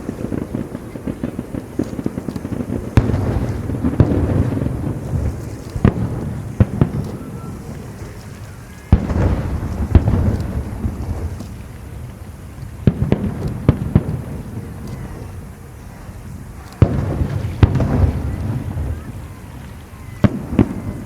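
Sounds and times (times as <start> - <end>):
firework shells booming: 0.0 - 21.0
sharp firework bangs: 0.0 - 21.0.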